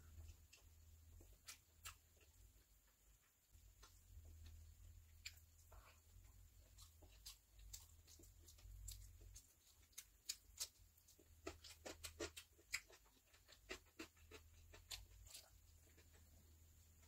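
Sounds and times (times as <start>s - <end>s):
chewing: 0.1s - 16.6s.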